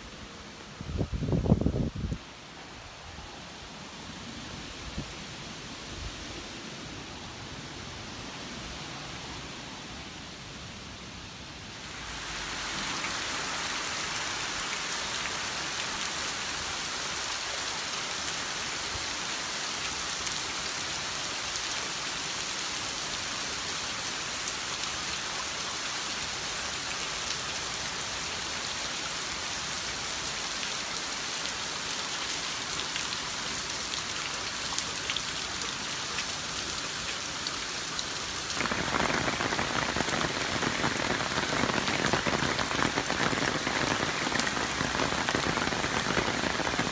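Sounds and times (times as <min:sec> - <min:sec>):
heavy rain splashing on pavement: 0:03.5 - 0:46.9.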